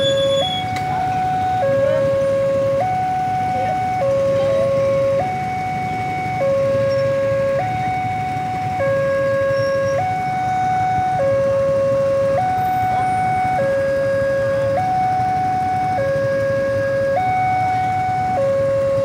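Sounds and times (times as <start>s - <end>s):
two-tone level crossing alarm: 0.0s - 19.0s.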